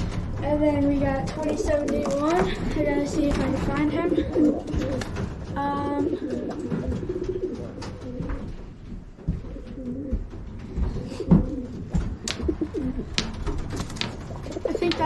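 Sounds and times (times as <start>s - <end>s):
pigeons cooing: 1.3s - 15.0s.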